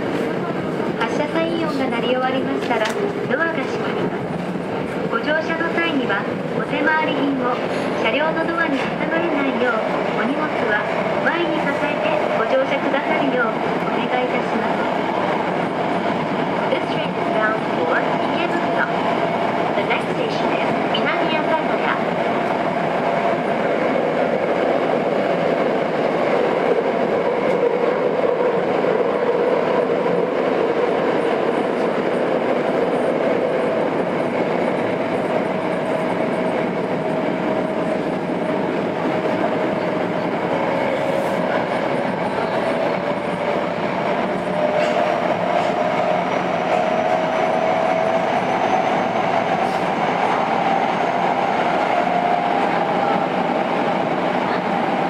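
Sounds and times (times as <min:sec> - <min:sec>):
subway train wheel and rail noise: 0:00.0 - 0:55.0.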